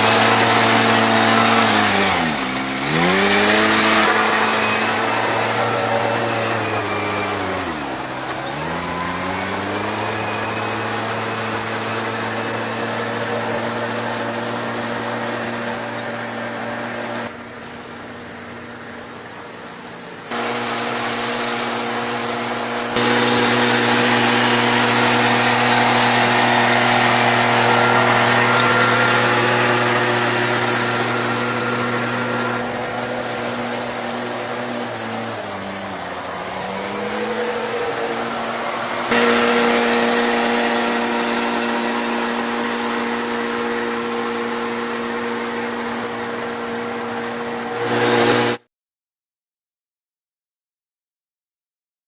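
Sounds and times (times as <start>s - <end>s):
farm machinery engine running: 0.0s - 48.6s.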